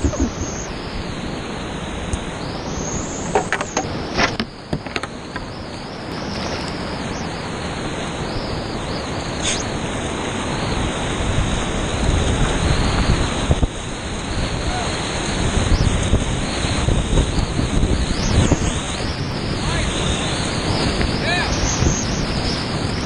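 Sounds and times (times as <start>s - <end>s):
whitewater rushing: 0.0s - 23.0s.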